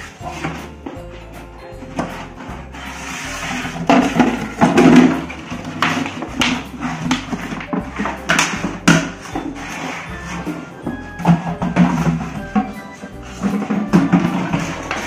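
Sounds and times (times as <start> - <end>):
plastic jar scraping on concrete: 0.0 - 1.4, 2.0 - 15.0.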